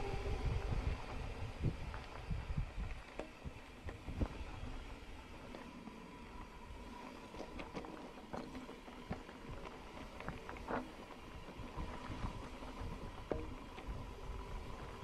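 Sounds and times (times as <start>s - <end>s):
wind rumble on microphone: 0.0s - 15.0s
bike rattling over ground: 0.2s - 15.0s.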